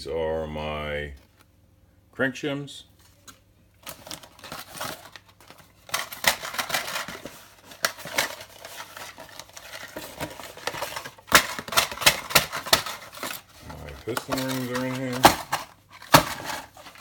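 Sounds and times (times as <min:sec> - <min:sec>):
packaging crinkling and rustling: 0:03.0 - 0:17.0.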